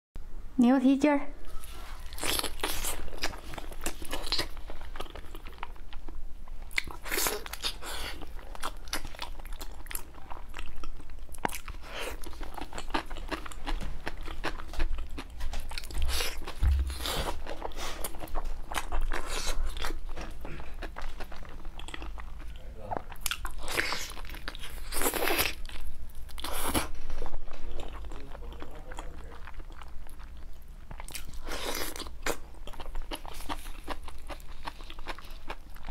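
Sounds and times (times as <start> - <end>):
person chewing with mouth clicks: 1.5 - 25.7, 27.7 - 35.9.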